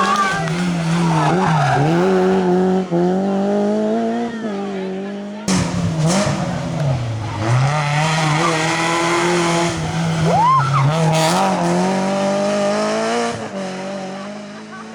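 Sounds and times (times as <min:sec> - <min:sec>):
rally car engine revving: 0:00.0 - 0:14.9.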